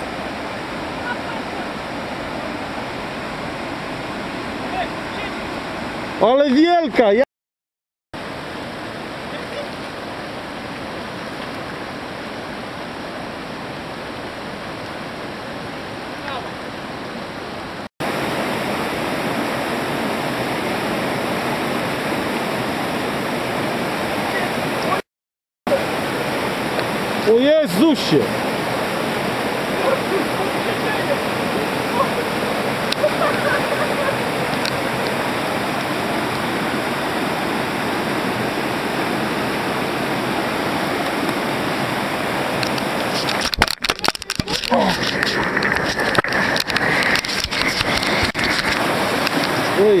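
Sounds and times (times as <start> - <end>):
water rushing over boulders: 0.0 - 7.2, 8.2 - 25.0, 25.7 - 50.0.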